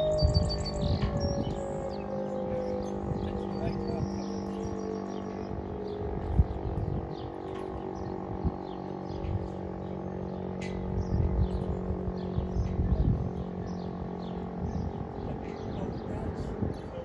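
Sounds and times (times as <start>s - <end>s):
birds chirping: 0.0s - 17.0s
fire siren steady chord: 0.0s - 17.0s.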